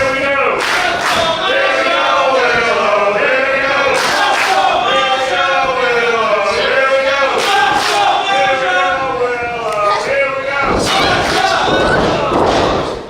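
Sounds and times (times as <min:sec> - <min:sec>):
crowd chanting in unison: 0:00.0 - 0:13.0.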